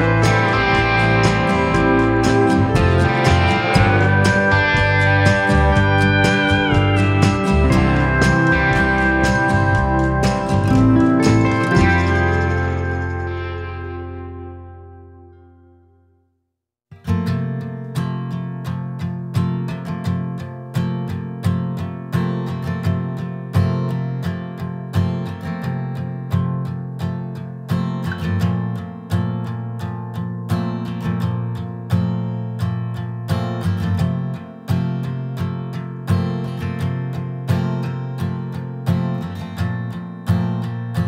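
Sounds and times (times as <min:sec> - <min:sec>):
strummed acoustic guitar: 0:00.0 - 0:15.7, 0:16.9 - 0:41.0.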